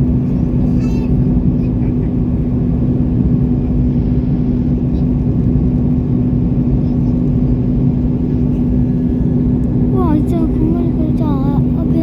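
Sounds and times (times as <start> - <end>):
airliner engines droning in cabin: 0.0 - 12.0.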